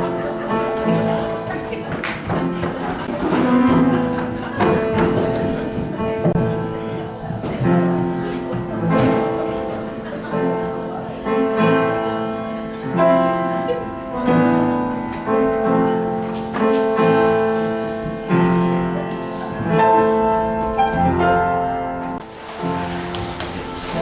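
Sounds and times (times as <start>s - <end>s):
piano playing slow chords: 0.0s - 24.0s.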